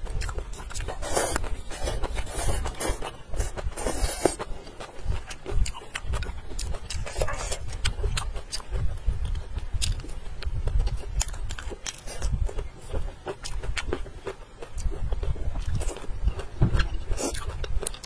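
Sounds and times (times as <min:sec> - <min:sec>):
chewing and mouth smacks: 0:00.0 - 0:18.0.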